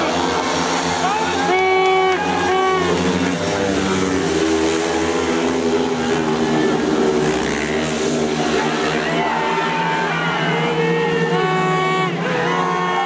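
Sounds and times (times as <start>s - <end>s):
motorcycle engines racing: 0.0s - 13.0s.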